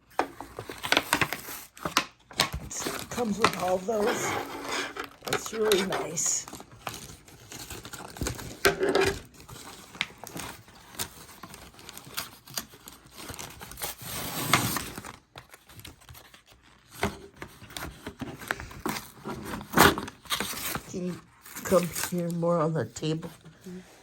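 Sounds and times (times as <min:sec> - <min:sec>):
paper packaging crinkling: 0:00.0 - 0:22.6.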